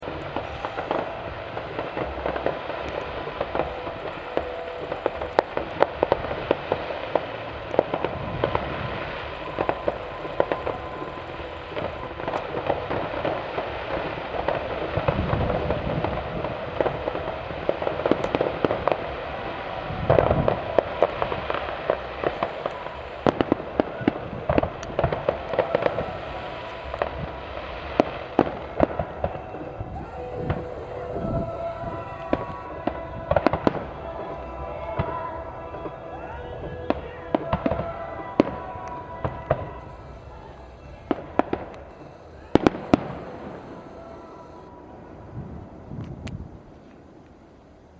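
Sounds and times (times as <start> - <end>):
fireworks cracks and pops: 0.0 - 44.7, 45.4 - 47.8
deep fireworks booms: 0.0 - 47.6
fireworks crackle: 0.0 - 47.9.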